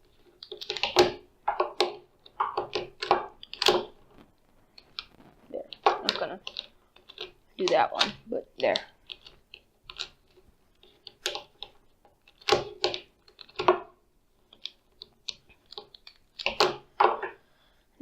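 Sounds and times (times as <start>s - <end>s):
plastic cube clicks and clacks: 0.0s - 4.0s, 5.7s - 17.4s.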